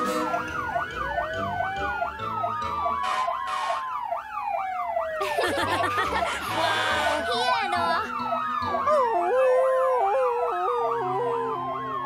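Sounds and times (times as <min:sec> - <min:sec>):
wailing siren: 0:00.0 - 0:12.0
yelp siren: 0:00.0 - 0:12.0.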